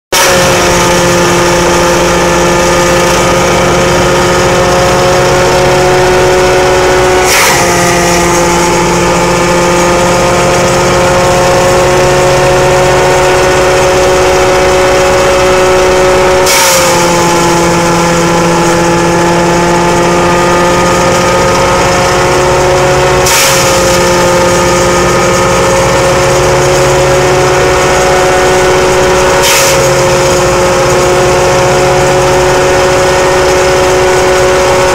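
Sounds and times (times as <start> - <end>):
shredder whining hum: 0.1 - 34.9
stalks being chopped crash: 0.1 - 34.9
tractor engine: 0.1 - 34.9.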